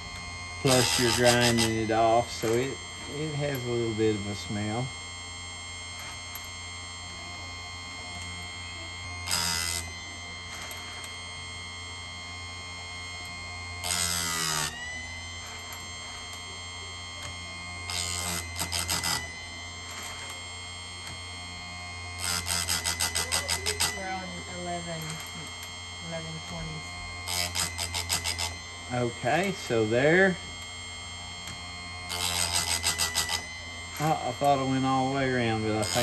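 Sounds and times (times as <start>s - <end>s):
grinding wheel rasping on metal: 0.0s - 5.0s, 5.8s - 12.3s, 12.9s - 36.0s
grinder motor hum and whine: 0.0s - 36.0s.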